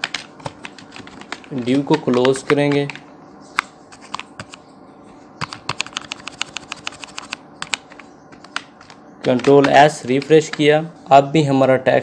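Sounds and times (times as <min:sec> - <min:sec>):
computer keyboard keys tapping: 0:00.0 - 0:04.6, 0:05.4 - 0:10.8.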